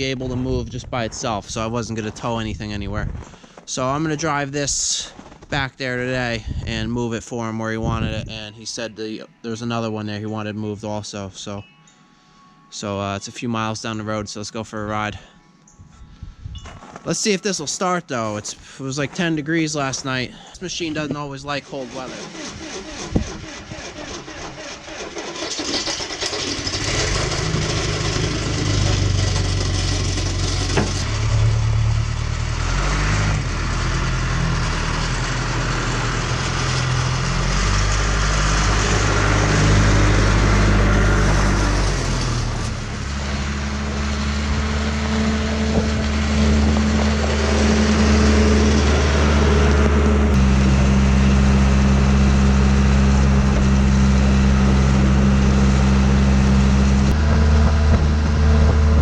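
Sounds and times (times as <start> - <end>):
diesel engine starting and running: 0.0 - 11.0, 15.9 - 59.0.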